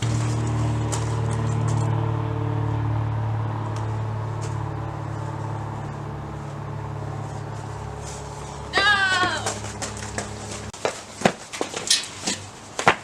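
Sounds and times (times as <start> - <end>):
low mechanical hum: 0.0 - 12.8.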